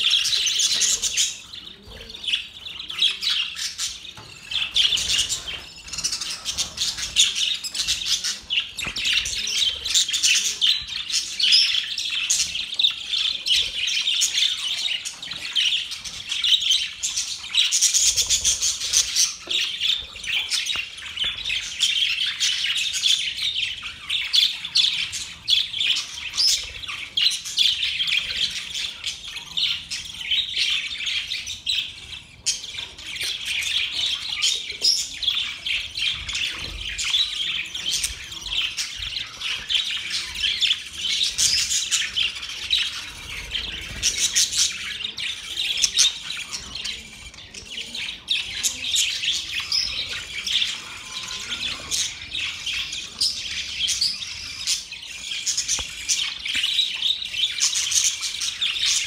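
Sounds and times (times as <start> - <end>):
budgerigars chirping: 0.0 - 59.0.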